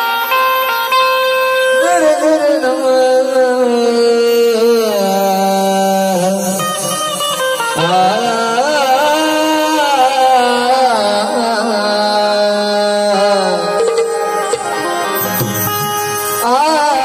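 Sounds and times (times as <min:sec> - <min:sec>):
slow melodic song with gliding notes: 0:00.0 - 0:17.0.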